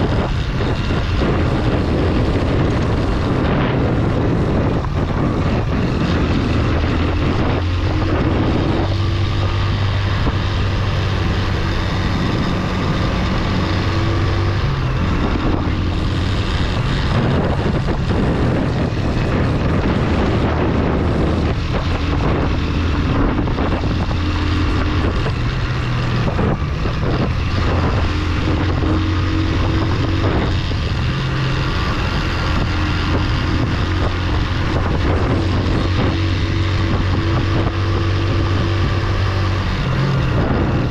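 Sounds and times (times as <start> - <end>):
motorcycle engine under load: 0.0 - 40.9
wind noise on microphone: 0.0 - 40.9.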